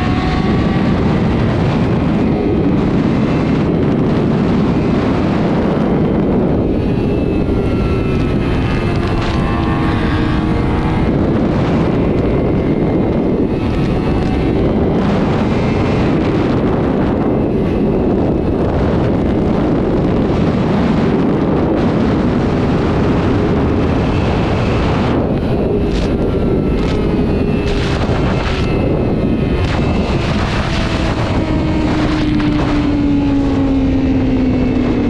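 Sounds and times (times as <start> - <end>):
motorcycle engine at speed: 0.0 - 35.0
wind noise on microphone: 0.0 - 35.0.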